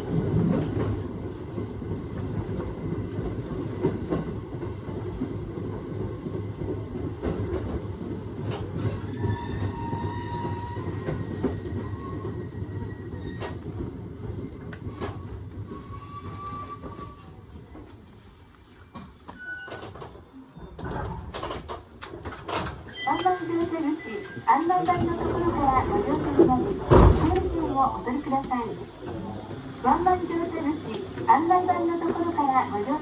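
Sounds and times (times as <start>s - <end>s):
train rumbling on rails: 0.0s - 33.0s.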